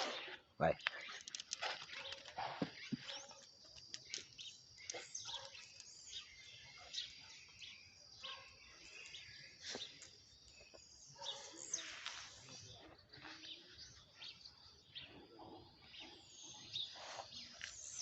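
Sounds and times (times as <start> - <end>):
bird chirps: 0.0 - 18.0
insect trill: 0.1 - 15.0.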